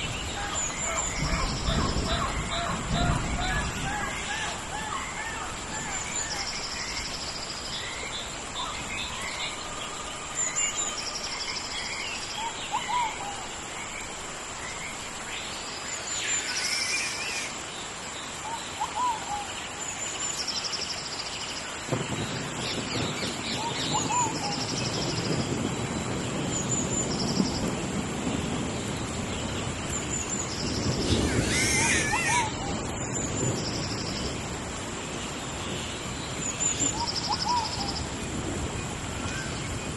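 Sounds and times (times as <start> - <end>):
birds calling: 0.0 - 19.7, 20.9 - 25.4, 28.8 - 38.2
rain hiss: 0.0 - 39.9.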